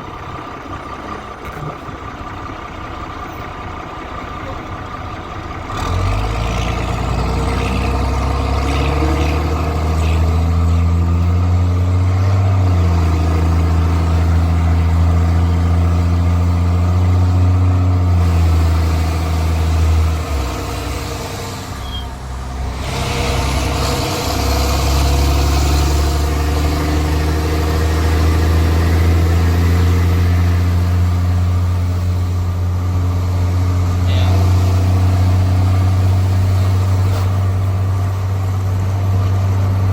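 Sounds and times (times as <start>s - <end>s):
diesel bus engine under load: 0.0s - 39.9s.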